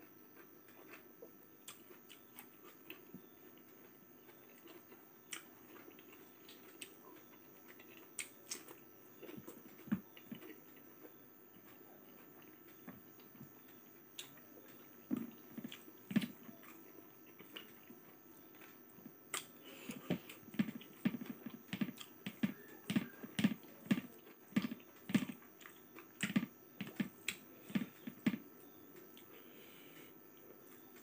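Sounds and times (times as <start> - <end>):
person chewing food: 0.3 - 31.0.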